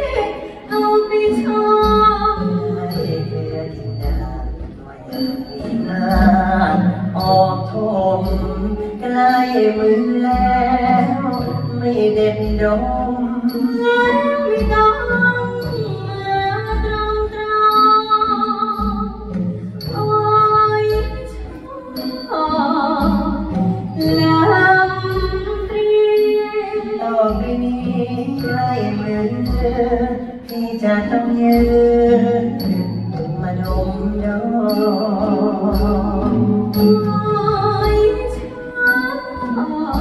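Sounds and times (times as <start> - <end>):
vocal duet singing: 0.0 - 40.0.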